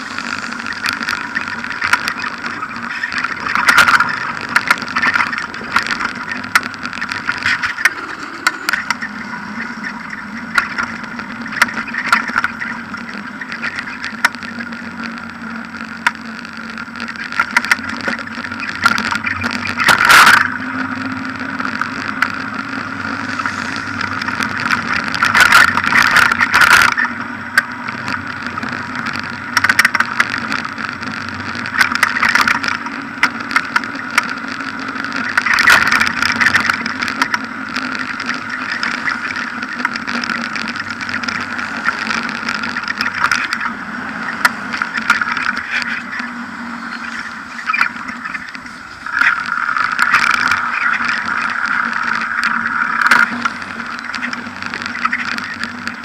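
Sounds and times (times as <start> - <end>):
bicycle rattling over paving: 0.0 - 56.0
steady drone: 0.0 - 56.0.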